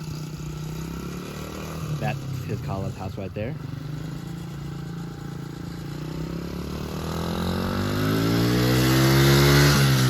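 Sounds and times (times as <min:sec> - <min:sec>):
small motorcycle engine revving: 0:00.0 - 0:10.0.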